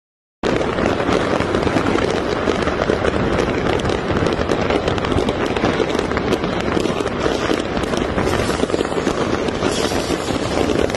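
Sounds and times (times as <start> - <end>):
fireworks crackling: 0.4 - 10.9.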